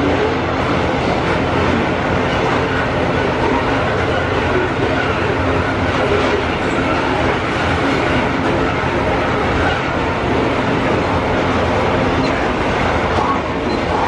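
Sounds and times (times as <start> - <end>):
diesel locomotives working: 0.0 - 14.0
train wheels on rail: 0.0 - 14.0.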